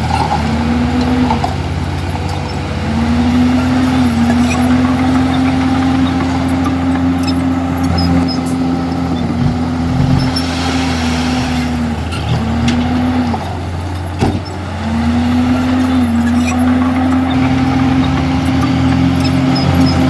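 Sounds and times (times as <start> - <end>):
bulldozer diesel engine under load: 0.0 - 20.0.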